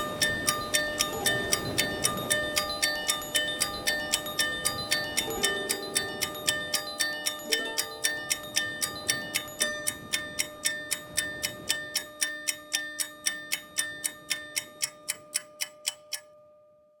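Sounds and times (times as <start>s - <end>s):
ringtone electronic ticks: 0.0s - 17.0s.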